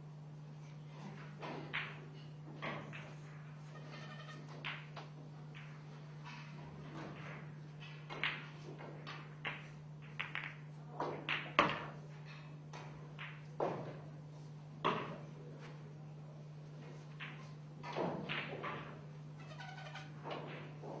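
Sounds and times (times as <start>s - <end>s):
steady low hum: 0.0s - 21.0s
pool balls clacking: 1.0s - 14.1s, 14.8s - 15.7s, 16.8s - 21.0s.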